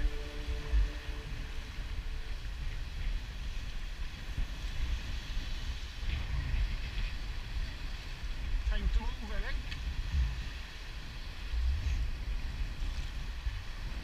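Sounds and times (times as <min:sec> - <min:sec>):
surf washing around rocks: 0:00.0 - 0:14.0
wind noise on microphone: 0:00.0 - 0:14.0.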